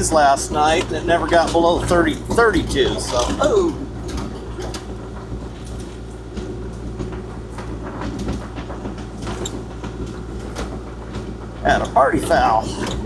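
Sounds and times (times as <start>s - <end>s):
diesel engine running: 0.0s - 7.9s, 9.6s - 13.0s
machine clunks and rattles: 0.0s - 13.0s.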